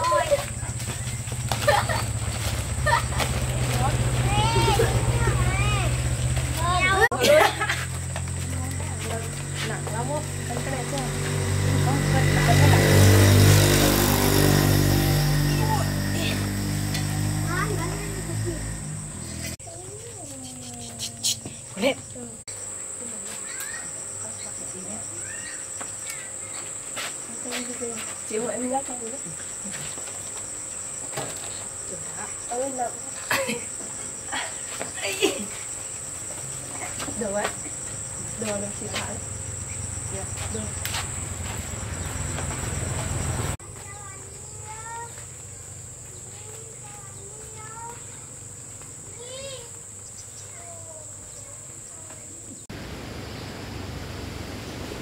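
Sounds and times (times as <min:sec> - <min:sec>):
high-pitched insect chorus: 0:00.0 - 0:52.7.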